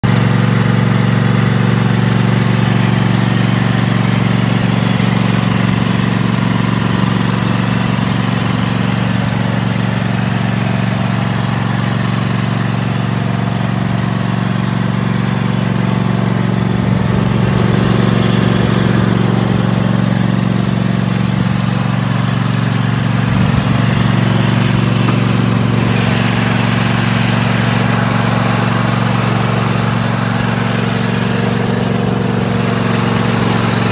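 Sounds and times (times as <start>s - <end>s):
mower engine humming: 0.0s - 33.9s.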